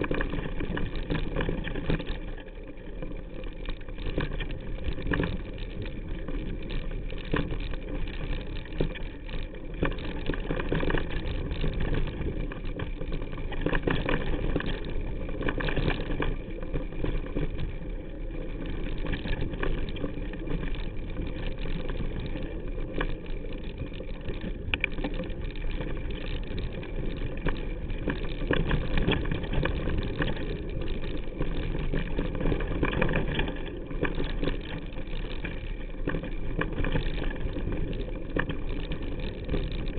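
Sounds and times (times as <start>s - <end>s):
bike tyres rumbling on dirt trail: 0.0s - 39.9s.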